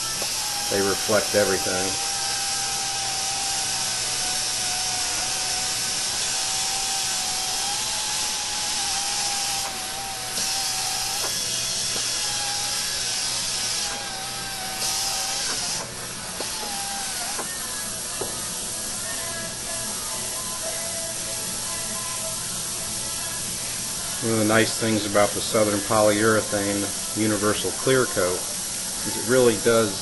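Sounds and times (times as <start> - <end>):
air buffer whine: 0.0 - 30.0
air hiss: 0.0 - 30.0.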